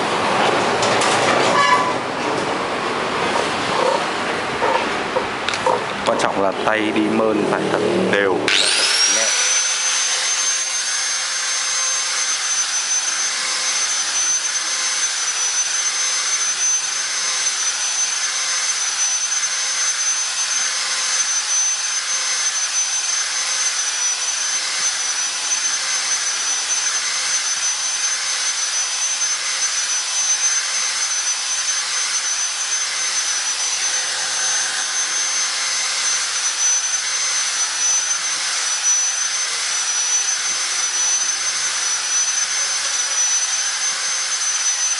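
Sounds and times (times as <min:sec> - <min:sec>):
high-speed electric tool whining: 0:03.7 - 0:44.9.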